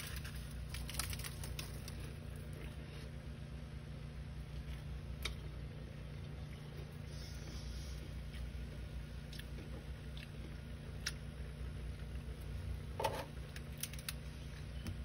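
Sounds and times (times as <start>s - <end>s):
freezer humming: 0.0s - 15.0s.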